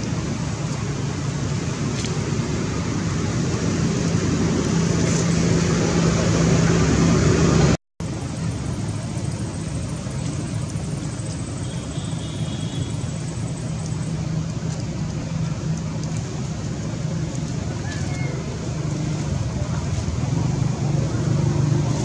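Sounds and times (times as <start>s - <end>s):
motor vehicle running: 0.0s - 22.0s.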